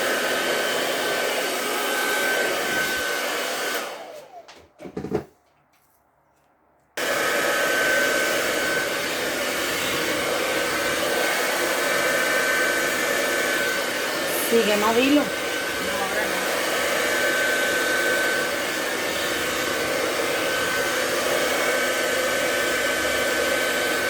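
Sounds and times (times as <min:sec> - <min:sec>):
hair dryer blowing: 0:00.0 - 0:05.2, 0:07.0 - 0:24.0.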